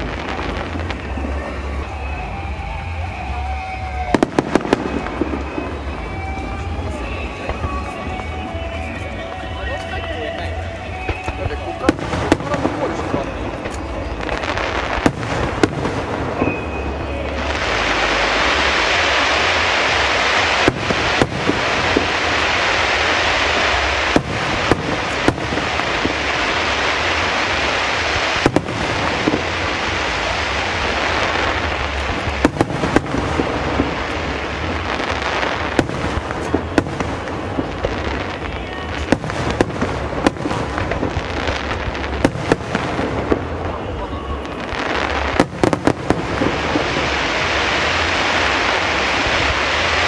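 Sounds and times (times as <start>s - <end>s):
fireworks crackling: 0.0s - 50.0s.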